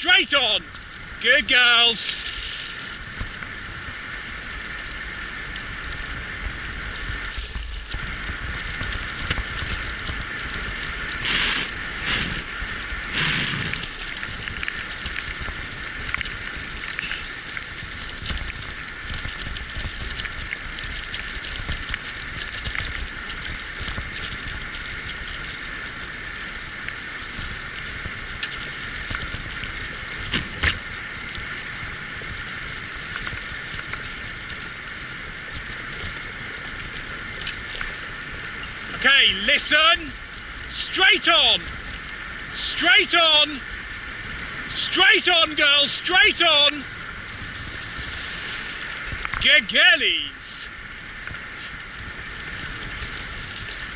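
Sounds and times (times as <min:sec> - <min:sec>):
wheeled rig rattling: 0:00.0 - 0:53.9.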